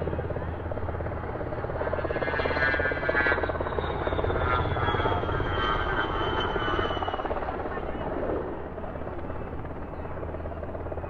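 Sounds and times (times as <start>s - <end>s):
helicopter rotor blades chopping: 0.0s - 11.0s.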